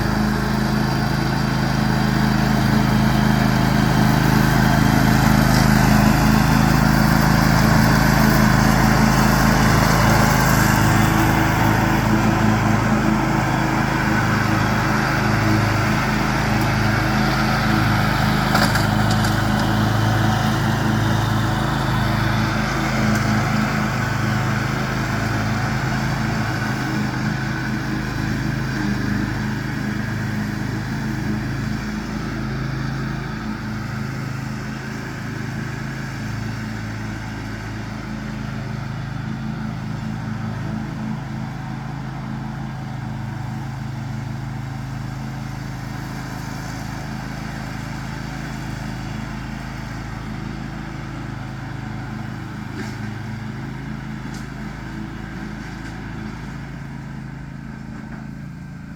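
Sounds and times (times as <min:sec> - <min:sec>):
riding lawn mower engine: 0:00.0 - 0:58.9.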